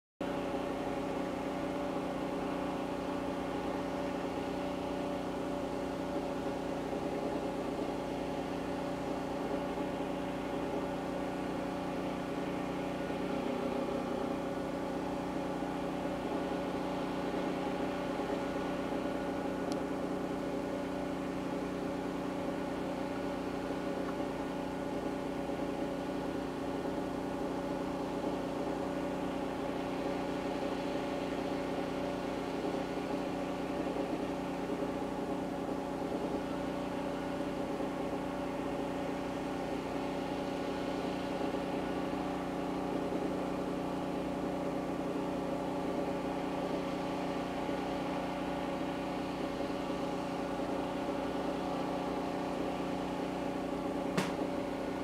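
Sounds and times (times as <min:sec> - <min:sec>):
generator running steadily: 0:00.2 - 0:55.0.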